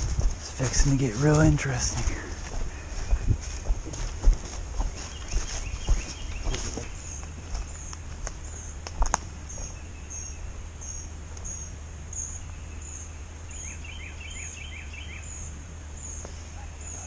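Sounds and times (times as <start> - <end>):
lower bird chirps: 0.0 - 17.0.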